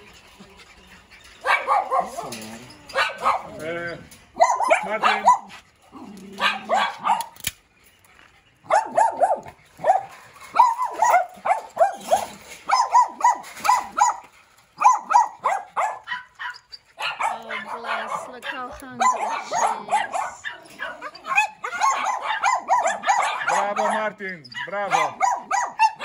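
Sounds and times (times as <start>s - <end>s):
small dogs barking: 1.0s - 7.5s, 8.6s - 26.0s.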